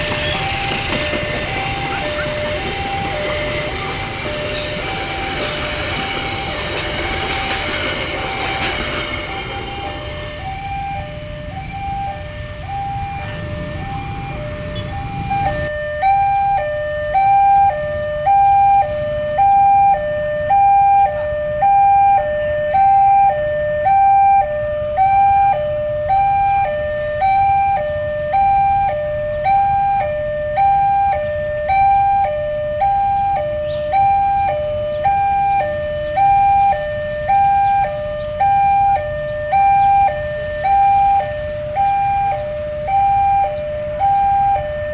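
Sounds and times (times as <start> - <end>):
level crossing two-tone alarm: 0.0 - 44.9
low train rumble: 0.0 - 44.9.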